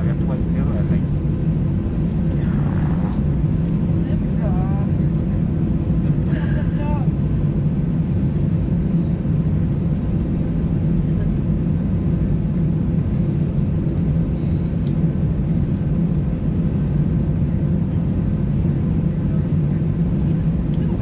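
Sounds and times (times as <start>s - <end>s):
cabin air conditioning: 0.0s - 21.0s.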